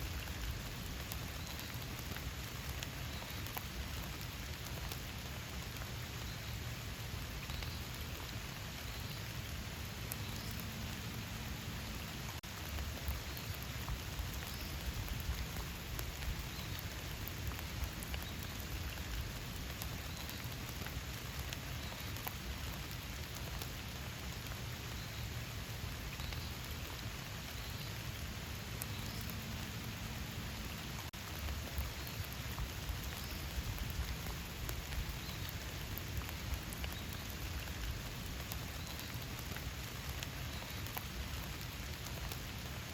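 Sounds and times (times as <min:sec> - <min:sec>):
rain falling in forest: 0:00.0 - 0:42.9
raindrops ticking: 0:00.0 - 0:42.9.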